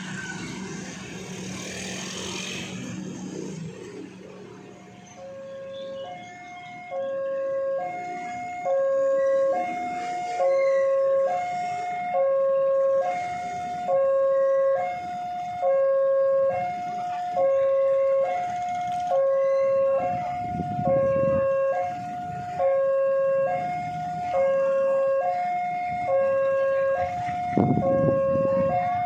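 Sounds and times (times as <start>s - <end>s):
two-tone level crossing alarm: 5.1s - 29.0s.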